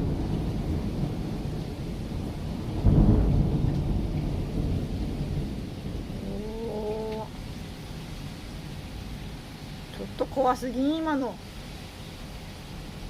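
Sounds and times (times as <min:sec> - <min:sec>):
thunder rumbling: 0:00.0 - 0:11.4.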